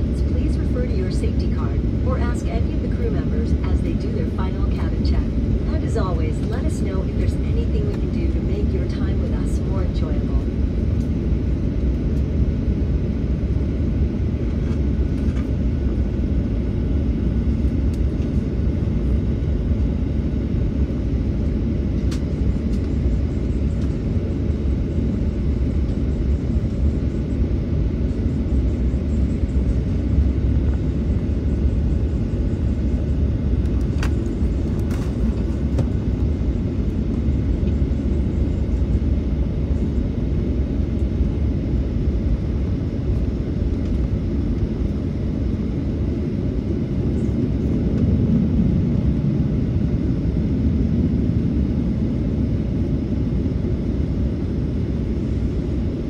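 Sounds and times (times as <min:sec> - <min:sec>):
air conditioning: 0:00.0 - 0:56.0
aircraft engines idling: 0:00.0 - 0:56.0.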